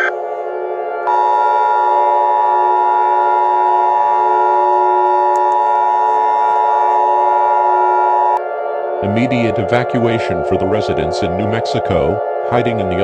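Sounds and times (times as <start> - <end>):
alert tone chord: 0.0 - 13.0.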